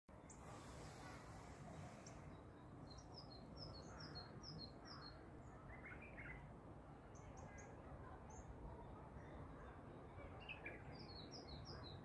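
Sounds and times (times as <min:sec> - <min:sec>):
small songbirds singing: 0:00.1 - 0:12.0.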